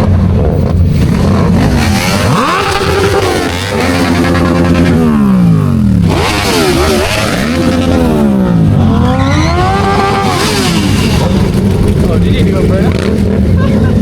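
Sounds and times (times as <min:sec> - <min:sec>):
loud engine revving: 0:00.0 - 0:14.0.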